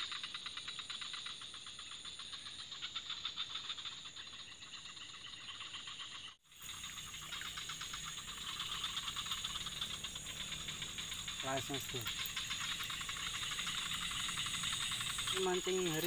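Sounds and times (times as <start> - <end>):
insects and frogs calling: 0.0 - 16.0.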